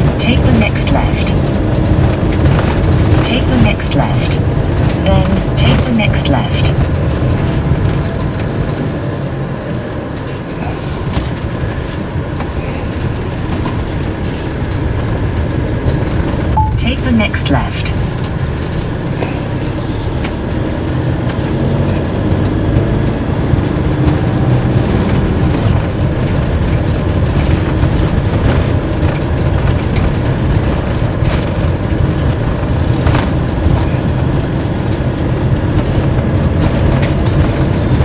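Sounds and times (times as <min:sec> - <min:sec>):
road and engine rumble in cabin: 0:00.0 - 0:38.0.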